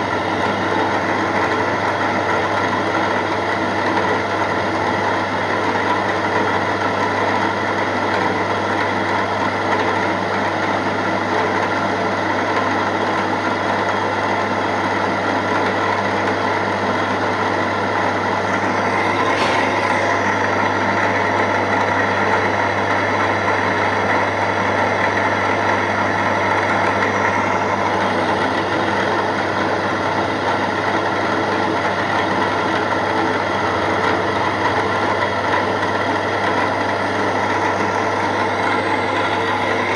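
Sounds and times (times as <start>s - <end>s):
milling machine spindle humming: 0.0s - 39.9s.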